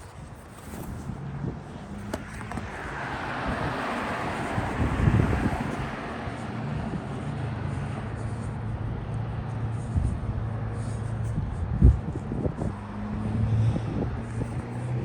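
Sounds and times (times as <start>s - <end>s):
wind buffeting microphone: 0.0s - 15.0s
low engine hum: 0.1s - 15.0s
vehicle passing: 0.6s - 15.0s.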